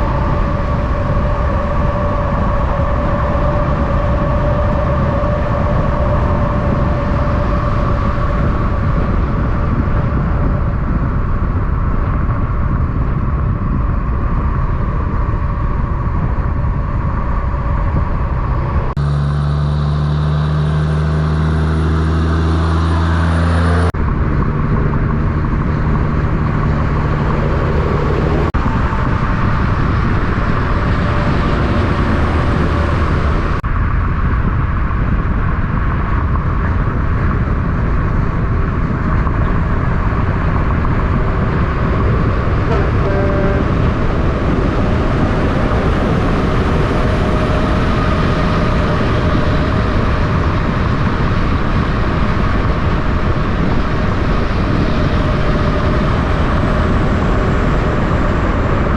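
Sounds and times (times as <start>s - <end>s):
low diesel engine drone: 0.0s - 58.9s
trucks passing on highway: 0.0s - 58.9s.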